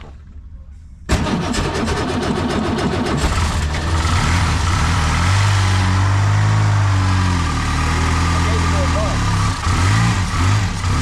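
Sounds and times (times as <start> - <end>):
car engine running: 1.1 - 11.0.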